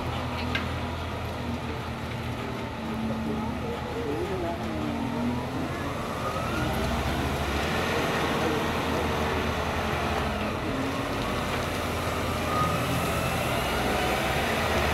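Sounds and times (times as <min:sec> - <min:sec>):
forklift engine running: 0:00.0 - 0:14.9.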